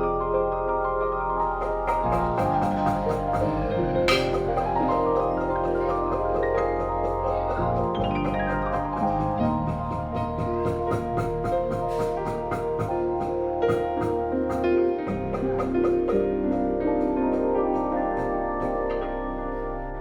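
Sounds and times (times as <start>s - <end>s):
upbeat mallet percussion music: 1.6s - 18.9s.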